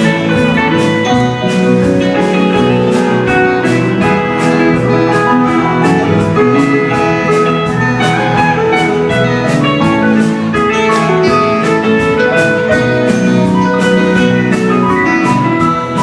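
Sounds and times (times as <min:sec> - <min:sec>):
band playing guitar: 0:00.0 - 0:16.0
steady drum beat: 0:00.0 - 0:16.0.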